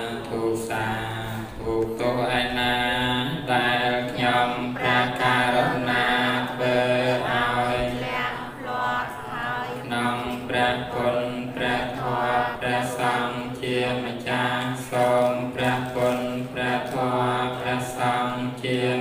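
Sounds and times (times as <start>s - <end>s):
monk chanting: 0.0s - 19.0s.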